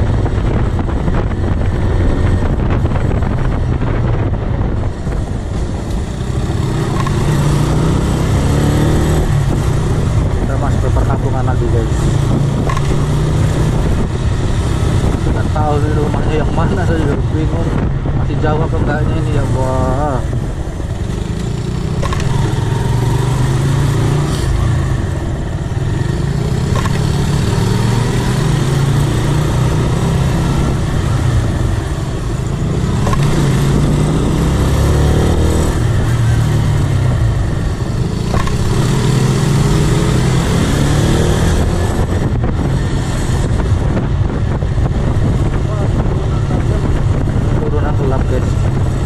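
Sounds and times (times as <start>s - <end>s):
motorcycle engine revving: 0.0s - 49.0s
road noise: 0.0s - 49.0s.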